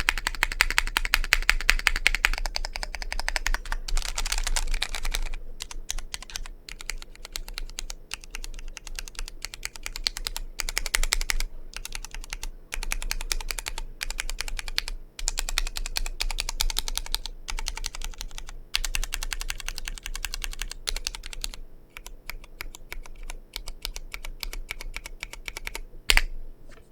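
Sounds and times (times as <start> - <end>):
mechanical keyboard typing: 0.0 - 26.3.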